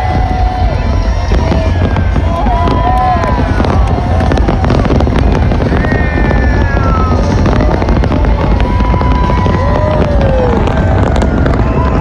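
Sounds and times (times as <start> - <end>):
fireworks booming and crackling: 0.0 - 12.0
whistling firework tones: 0.0 - 12.0.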